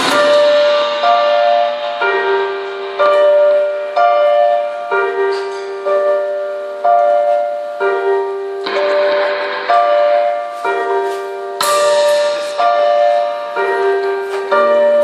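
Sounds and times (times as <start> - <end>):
keyboard playing piano chords: 0.0 - 15.0.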